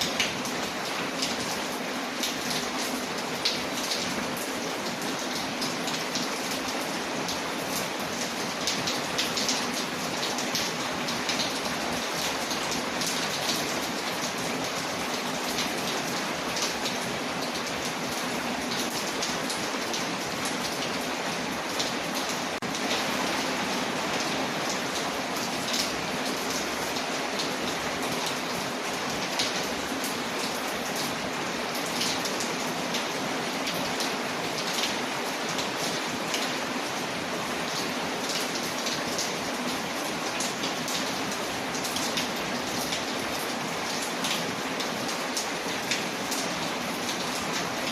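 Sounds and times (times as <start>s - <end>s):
rain against a window: 0.0s - 47.9s.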